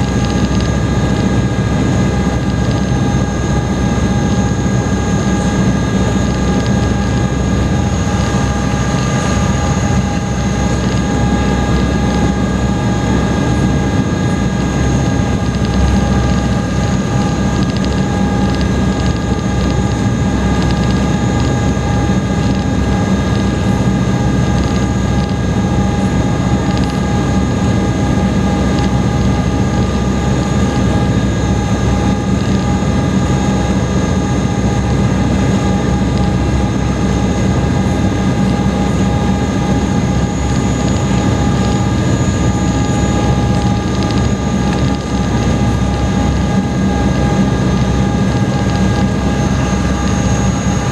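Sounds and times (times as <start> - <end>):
ferry engine low rumble: 0.0 - 50.9
steady engine whine: 0.0 - 50.9.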